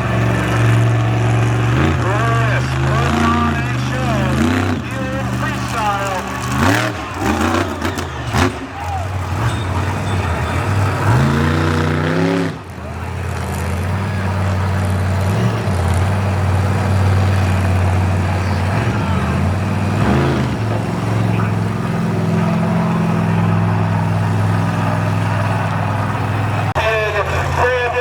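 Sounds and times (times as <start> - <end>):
monster truck engine running: 0.0 - 28.0.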